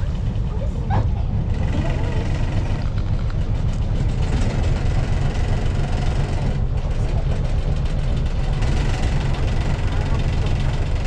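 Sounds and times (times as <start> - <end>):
boat engine running at low speed: 0.0 - 11.0.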